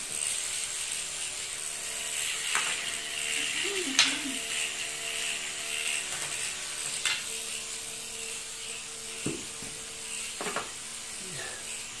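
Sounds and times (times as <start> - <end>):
gyroscopic vehicle whirring hiss: 0.0 - 12.0.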